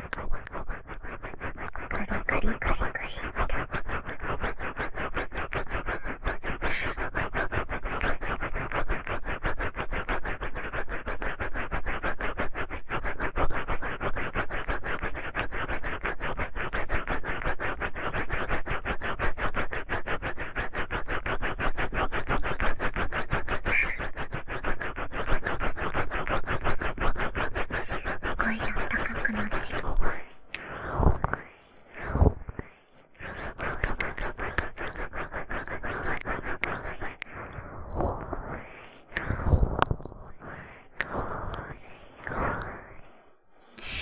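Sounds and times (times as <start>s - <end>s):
ear pick scratching: 0.0s - 44.0s.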